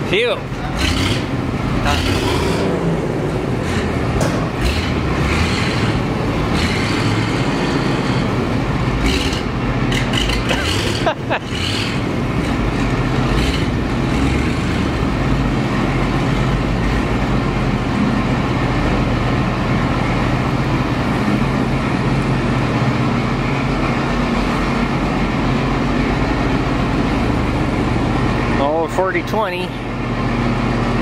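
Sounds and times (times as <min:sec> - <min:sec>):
tractor engine idling: 0:00.0 - 0:31.0
truck engine idling: 0:00.0 - 0:31.0.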